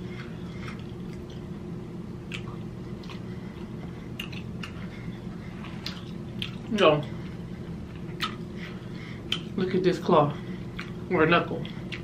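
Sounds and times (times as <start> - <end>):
chewing with wet mouth smacks: 0.0 - 9.6, 10.6 - 12.0
steady low hum: 0.0 - 12.0.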